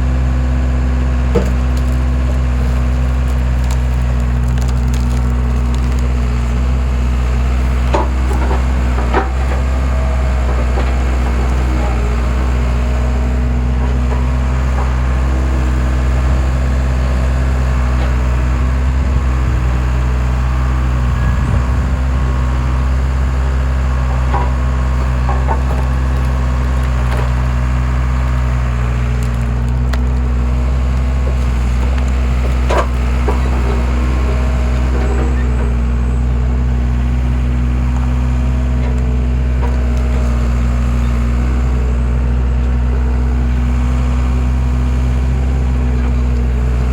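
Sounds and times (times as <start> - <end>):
skid steer engine running: 0.0 - 46.9
wood cracking and splintering: 0.1 - 19.9, 23.2 - 46.9.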